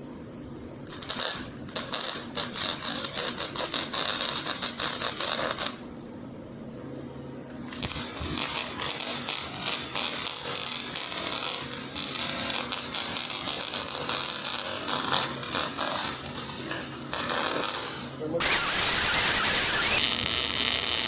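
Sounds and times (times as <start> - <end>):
welding arc crackling: 0.9 - 5.8, 7.7 - 21.0.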